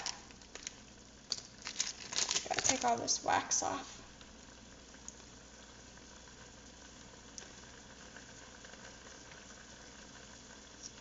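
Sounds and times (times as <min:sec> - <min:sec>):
pot simmering: 0:00.0 - 0:11.0.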